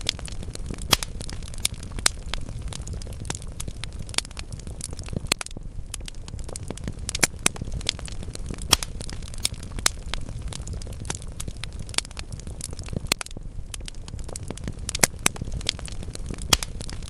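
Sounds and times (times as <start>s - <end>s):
logs crackling and popping: 0.0s - 17.0s
low rumble of flame: 0.0s - 17.0s.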